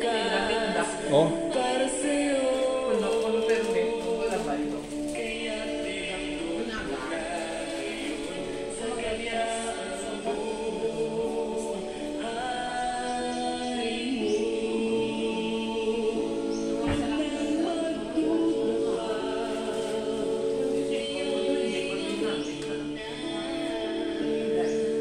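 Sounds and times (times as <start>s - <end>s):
choir singing a cappella: 0.0s - 25.0s.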